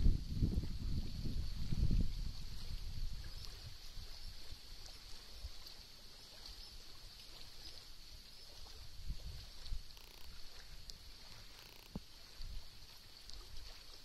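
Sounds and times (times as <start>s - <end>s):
water lapping against reeds: 0.0s - 14.0s.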